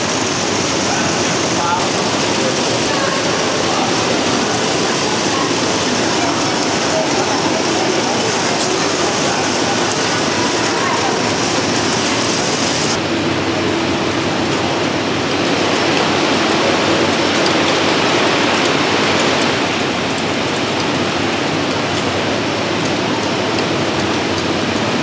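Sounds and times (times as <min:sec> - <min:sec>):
factory machinery noise: 0:00.0 - 0:25.0.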